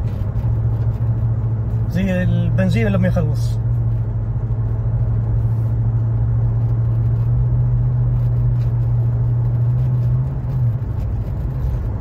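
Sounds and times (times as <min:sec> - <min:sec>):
truck engine low hum: 0:00.0 - 0:12.0.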